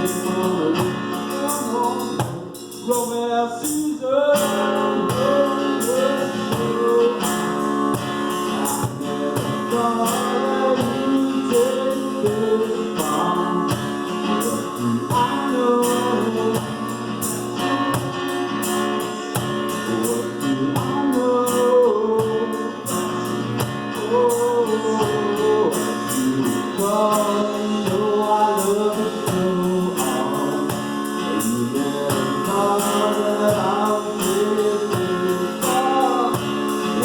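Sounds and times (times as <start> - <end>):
percussion hits: 0.0 - 3.8, 4.4 - 37.0
acoustic guitar: 0.0 - 37.0
person singing: 0.0 - 37.0.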